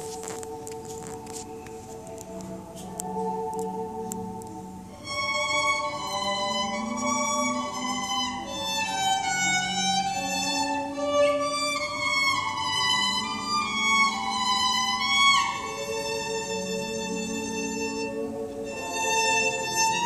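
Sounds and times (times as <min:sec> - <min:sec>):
solo violin melody: 0:03.0 - 0:20.0.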